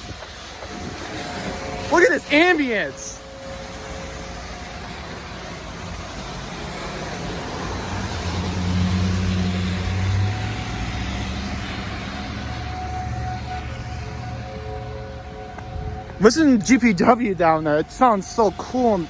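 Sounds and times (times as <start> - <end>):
passing vehicle engine hum: 0.0 - 19.0
rush of tyres: 0.0 - 19.0.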